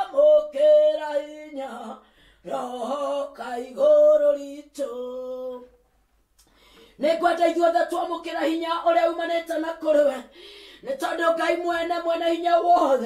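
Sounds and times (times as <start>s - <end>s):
woman singing unaccompanied: 0.0s - 5.7s, 7.0s - 13.0s.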